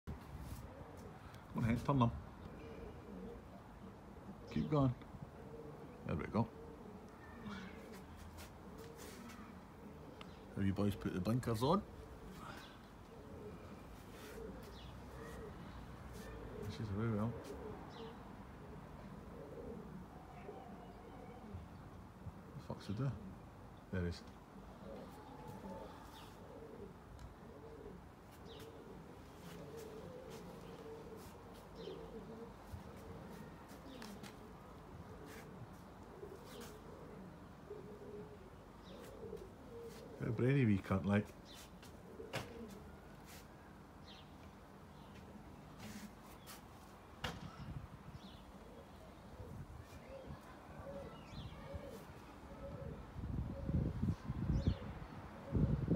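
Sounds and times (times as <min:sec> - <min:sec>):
pigeons cooing: 0:00.1 - 0:55.9.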